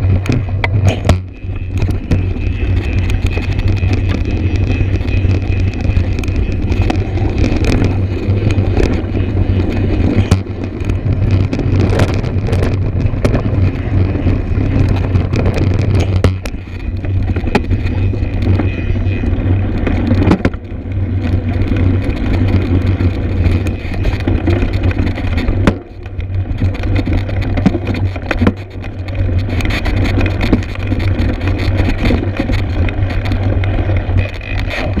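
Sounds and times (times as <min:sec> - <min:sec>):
wind rumble on microphone: 0:00.0 - 0:35.0.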